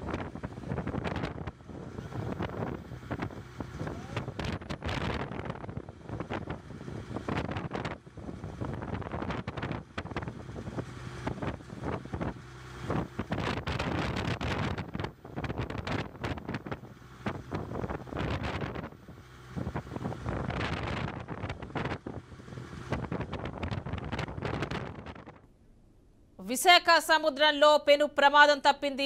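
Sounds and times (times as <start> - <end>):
boat engine humming: 0.0 - 25.0
wind gusting on microphone: 0.0 - 25.4.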